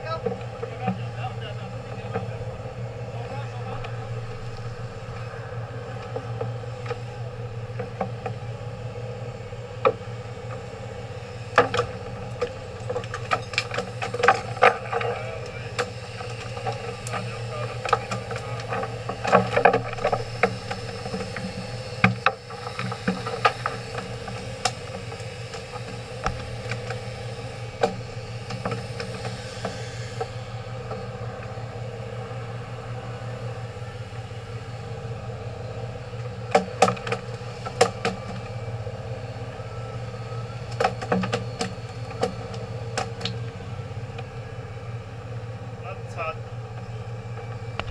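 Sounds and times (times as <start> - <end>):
boat engine idling: 0.0 - 47.9.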